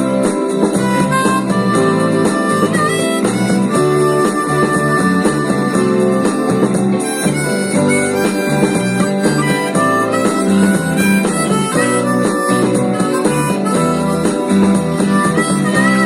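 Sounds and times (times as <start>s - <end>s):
acoustic guitar accompaniment: 0.0s - 16.0s
harmonica melody: 0.0s - 16.0s.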